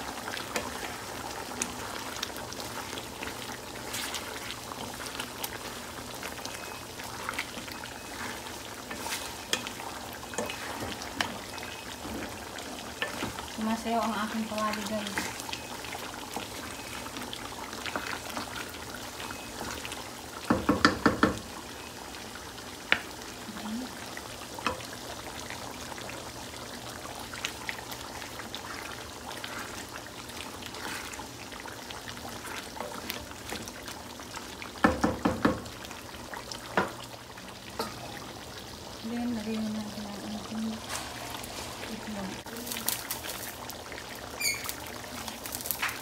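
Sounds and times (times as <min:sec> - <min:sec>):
stew simmering and sizzling: 0:00.0 - 0:46.0.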